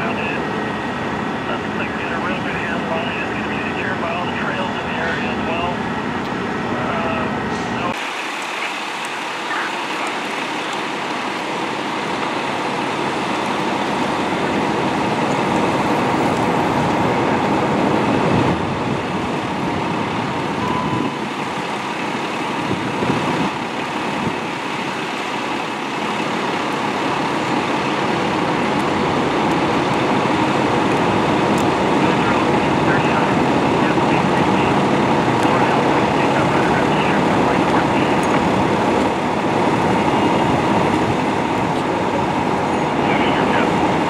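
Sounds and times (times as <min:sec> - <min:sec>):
idling engines and traffic hum: 0:00.0 - 0:44.0.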